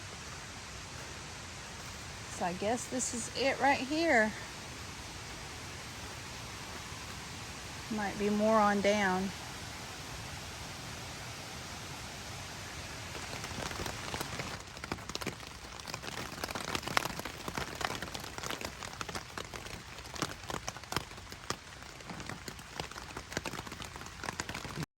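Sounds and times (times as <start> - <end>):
large raindrops hitting sharply: 0.0 - 24.9
rain falling steadily: 0.0 - 24.9.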